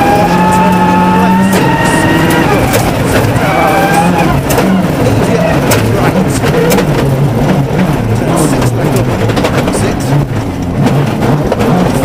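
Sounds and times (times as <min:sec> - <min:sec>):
car engine revving: 0:00.0 - 0:12.0
stones rattling against car: 0:00.8 - 0:12.0.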